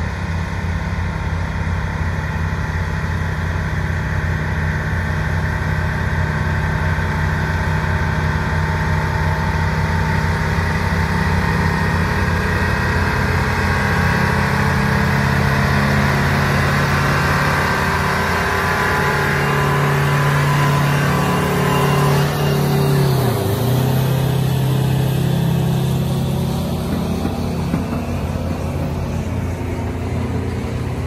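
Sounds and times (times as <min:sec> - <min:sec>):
truck diesel engine passing: 0:00.0 - 0:31.0.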